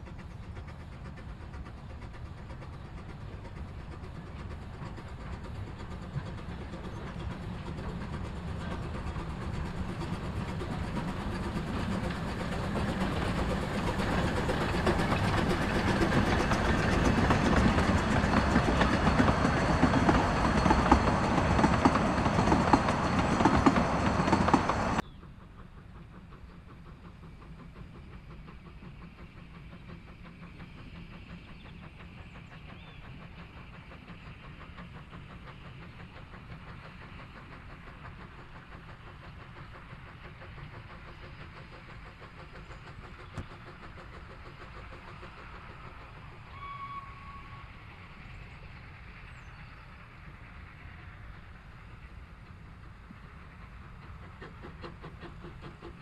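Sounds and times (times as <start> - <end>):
steam locomotive hiss and rumble: 0.0 - 56.0
train wheels clacking over rails: 0.0 - 56.0.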